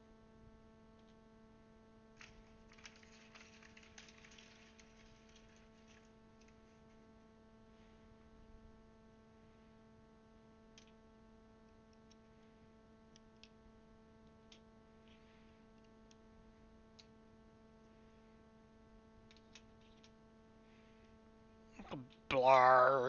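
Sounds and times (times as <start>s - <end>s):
steady electrical hum: 0.0s - 23.0s.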